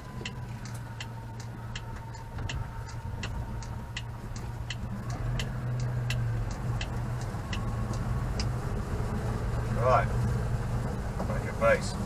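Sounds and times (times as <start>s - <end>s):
steady ticking: 0.0s - 11.4s
car engine running: 0.0s - 12.0s.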